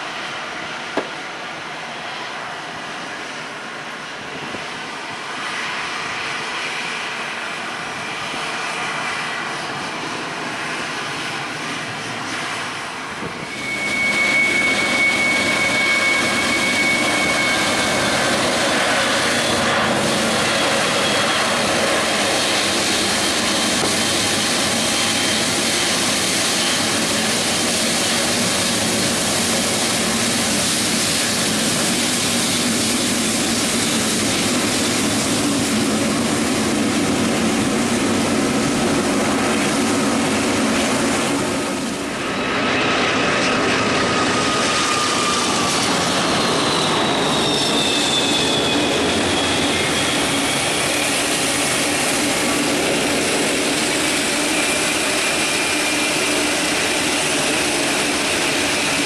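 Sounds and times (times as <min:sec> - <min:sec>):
high steady jet whine: 0:00.0 - 0:59.0
jet engines roaring: 0:00.0 - 0:59.0.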